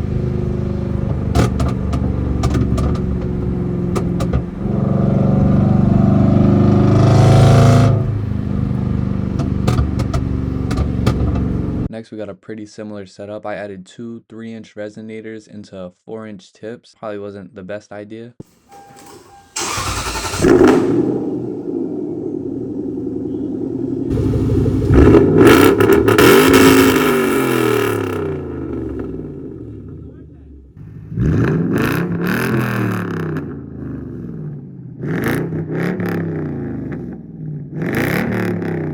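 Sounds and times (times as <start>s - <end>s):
car engine revving and idling: 0.0s - 11.9s, 18.8s - 38.9s.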